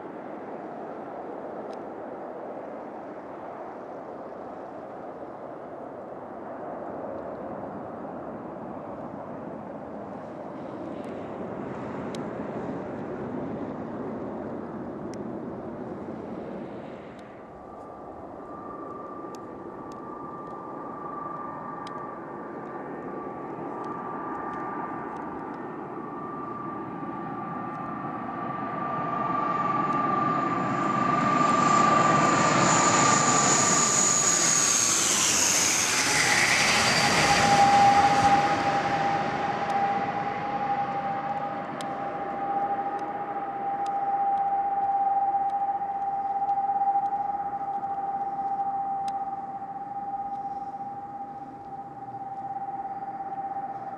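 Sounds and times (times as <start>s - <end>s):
jet engines rumbling: 0.0s - 53.9s
turboprop engine whine: 0.0s - 53.9s.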